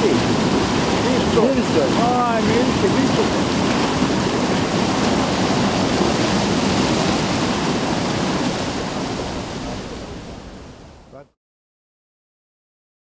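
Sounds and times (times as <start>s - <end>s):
water rushing down wooden chute: 0.0s - 10.9s.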